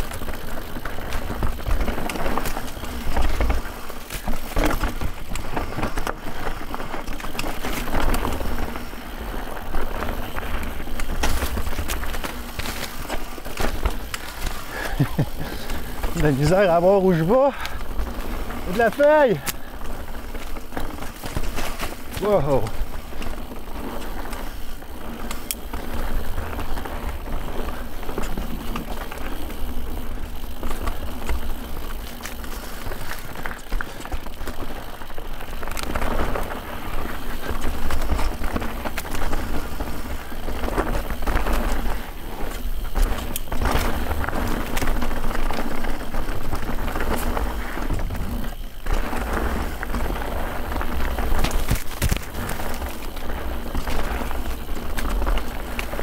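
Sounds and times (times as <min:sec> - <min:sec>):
bike frame rattling: 0:00.0 - 0:56.0
bike tyres rolling and skidding: 0:00.0 - 0:56.0.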